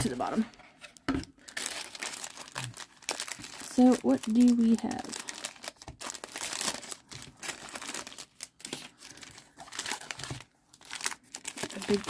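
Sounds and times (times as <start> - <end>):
plastic wrappers crinkling: 1.3 - 12.0.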